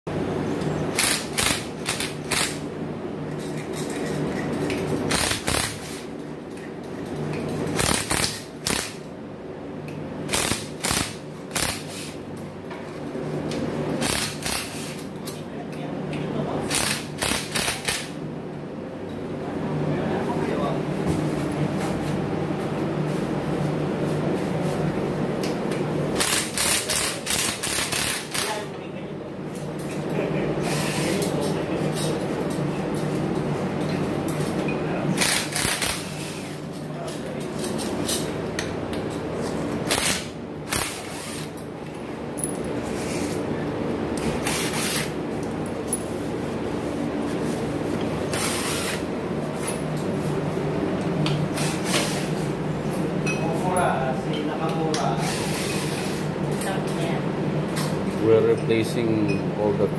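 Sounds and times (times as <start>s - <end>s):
steady low hum: 0.1s - 59.9s.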